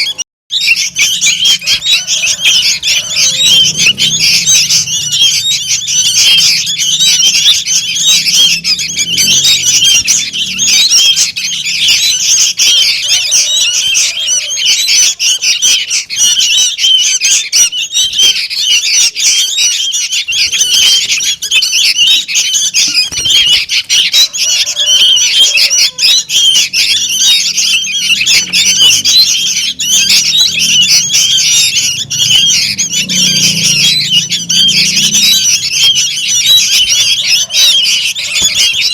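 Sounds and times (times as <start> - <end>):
young birds chirping noisily: 0.0 - 38.9.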